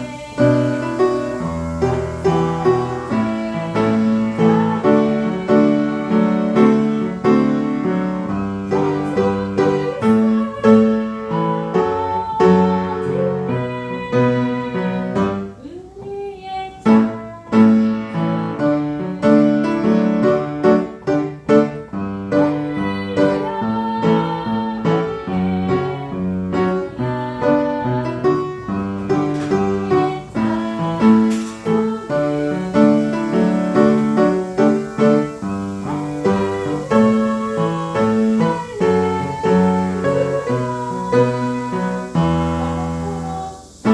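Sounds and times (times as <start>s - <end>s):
piano playing a hymn: 0.0s - 43.9s.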